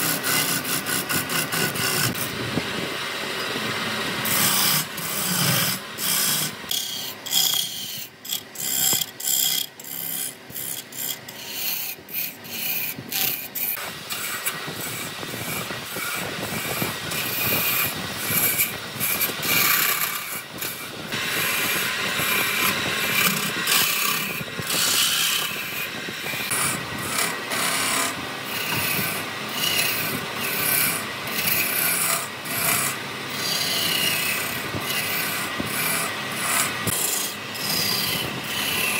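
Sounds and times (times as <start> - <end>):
tool rasping against wood: 0.0 - 2.4, 4.2 - 38.9.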